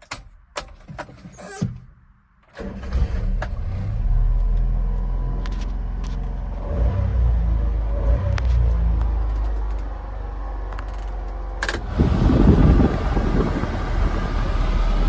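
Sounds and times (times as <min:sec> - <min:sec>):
truck engine starting and idling: 0:02.4 - 0:15.0.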